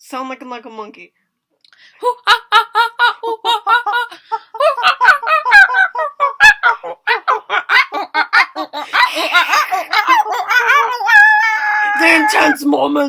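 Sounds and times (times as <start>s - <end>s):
people laughing hard: 2.0s - 12.5s.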